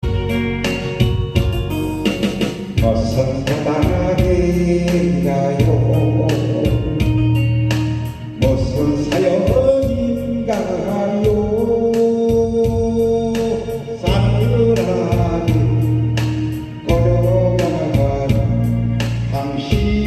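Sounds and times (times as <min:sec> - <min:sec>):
music with beat and organ: 0:00.0 - 0:20.0
man singing a pop song: 0:02.8 - 0:07.4, 0:08.3 - 0:20.0.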